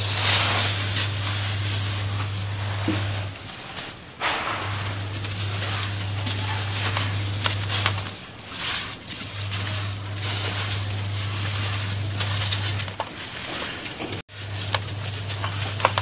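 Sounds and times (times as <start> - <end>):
dry mix pouring by hand: 0.0 - 16.0
low steady hum: 0.0 - 16.0.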